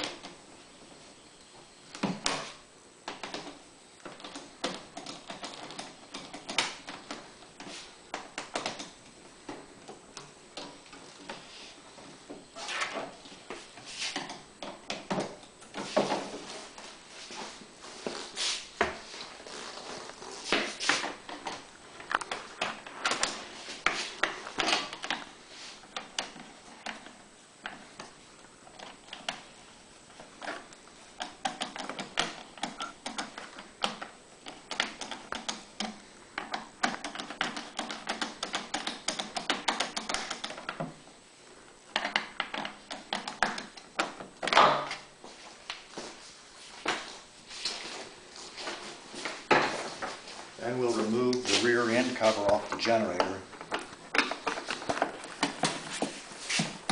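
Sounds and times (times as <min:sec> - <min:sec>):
panels and fasteners clicking and knocking: 0:01.9 - 0:17.6, 0:20.4 - 0:41.0, 0:41.8 - 0:45.9, 0:46.8 - 0:56.9.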